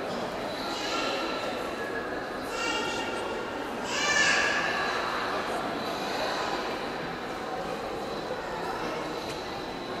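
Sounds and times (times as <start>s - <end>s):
murmur of distant voices: 0.0s - 10.0s.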